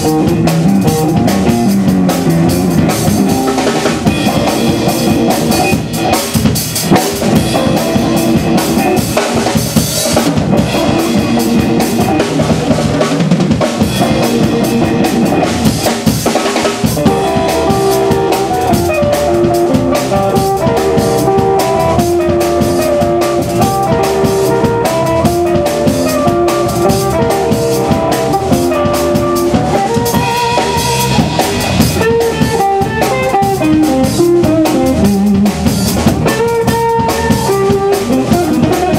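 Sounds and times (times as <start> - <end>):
blues band playing: 0.0 - 38.9
drum kit: 0.0 - 38.9
guitar: 0.0 - 38.9.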